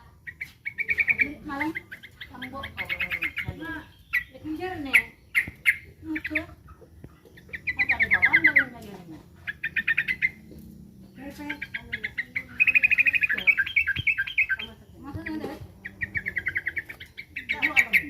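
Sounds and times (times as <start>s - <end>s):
bird chattering alarm calls: 0.0s - 18.0s.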